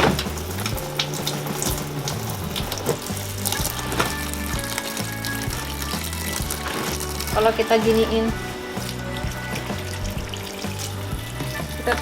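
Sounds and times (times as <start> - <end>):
background music: 0.0 - 12.0
tap water pouring into a tub: 0.0 - 12.0.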